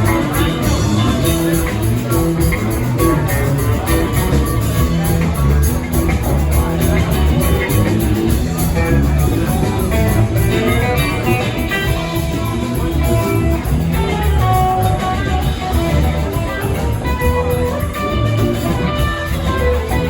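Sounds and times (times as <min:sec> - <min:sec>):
bass: 0:00.0 - 0:20.0
drums: 0:00.0 - 0:20.0
guitar lines: 0:00.0 - 0:20.0.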